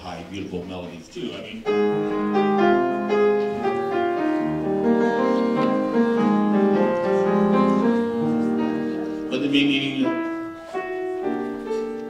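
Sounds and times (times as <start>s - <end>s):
solo piano melody: 1.6s - 12.0s.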